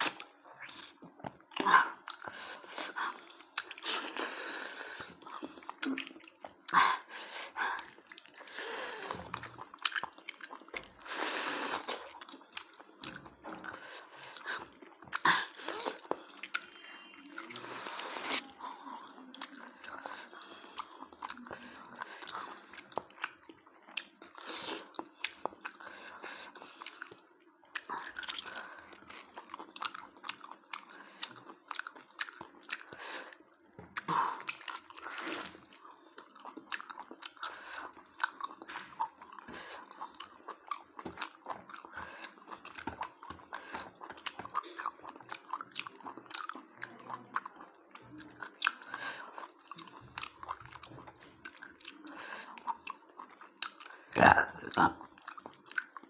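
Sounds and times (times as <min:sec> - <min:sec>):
person chewing food: 0:00.0 - 0:56.0
food crunching: 0:07.8 - 0:56.0.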